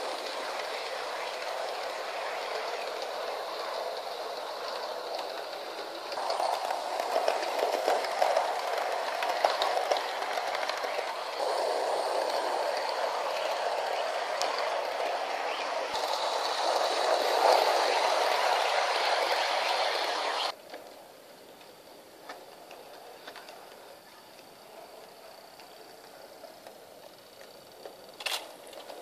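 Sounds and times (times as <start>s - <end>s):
model train whirring on rails: 0.0s - 29.0s.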